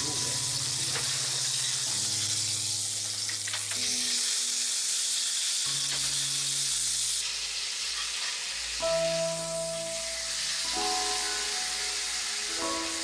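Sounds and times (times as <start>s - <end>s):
cutlet sizzling in oil: 0.0s - 13.0s
soft background music: 0.0s - 13.0s.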